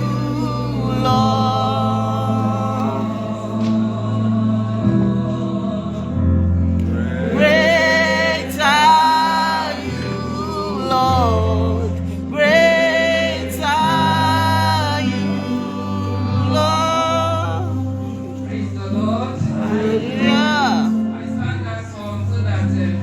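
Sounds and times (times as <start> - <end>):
congregation singing gospel: 0.0 - 23.0
sustained keyboard bass: 0.0 - 23.0.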